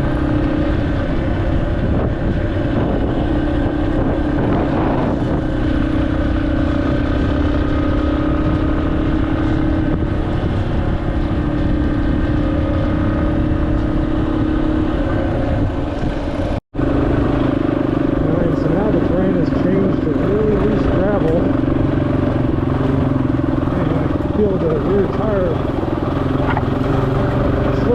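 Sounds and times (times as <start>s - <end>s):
motorcycle engine running: 0.0s - 27.9s
wind and road noise: 0.0s - 27.9s.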